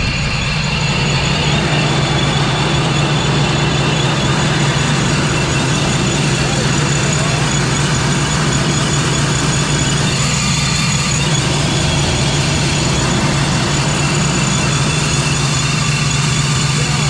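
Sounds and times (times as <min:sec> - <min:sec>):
car engine idling: 0:00.0 - 0:17.0
supercharger high whistle: 0:00.0 - 0:17.0.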